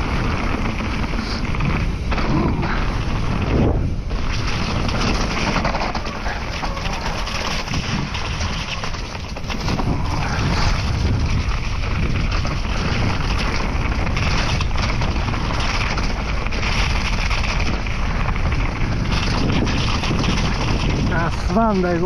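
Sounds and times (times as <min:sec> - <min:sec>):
bike knocks and rattles: 0:00.0 - 0:22.0
bike tyre rumble: 0:00.0 - 0:22.0
wind on microphone: 0:00.0 - 0:22.0.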